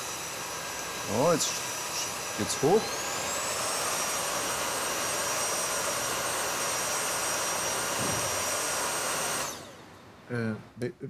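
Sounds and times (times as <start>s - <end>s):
vacuum cleaner whining: 0.0s - 10.6s.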